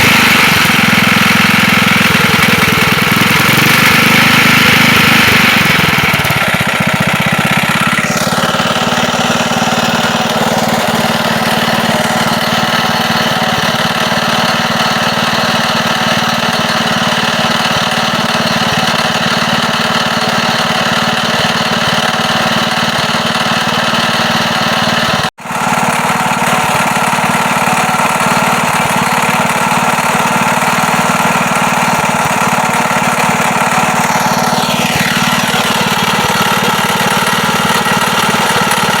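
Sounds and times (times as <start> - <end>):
air-cooled engine running: 0.0 - 39.0
engine knock: 0.0 - 39.0.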